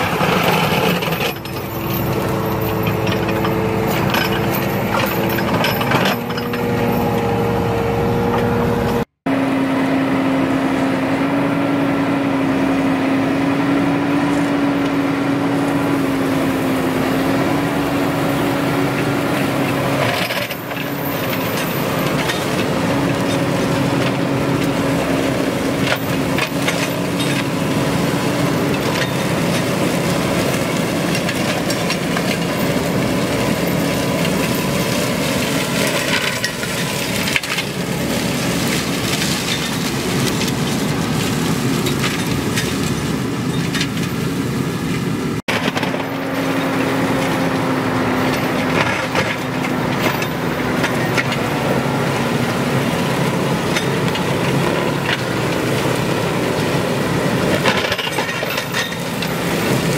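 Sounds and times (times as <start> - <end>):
flail mower cutting grass: 0.0 - 59.9
tractor engine: 0.0 - 59.9.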